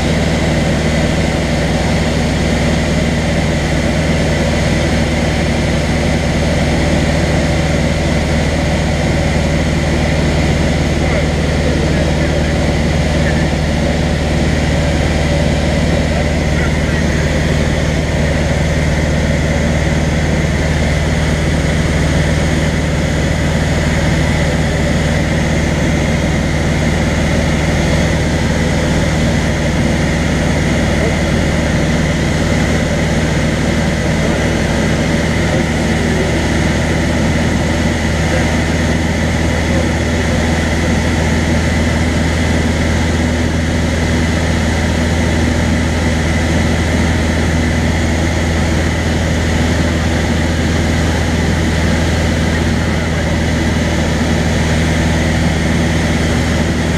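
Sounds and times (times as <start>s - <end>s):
propeller aircraft engine droning: 0.0s - 56.9s.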